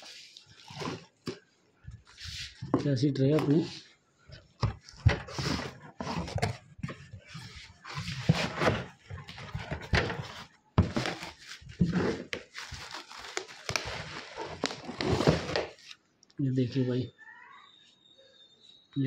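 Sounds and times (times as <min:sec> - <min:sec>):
cardboard and plastic rustling: 0:00.0 - 0:16.0.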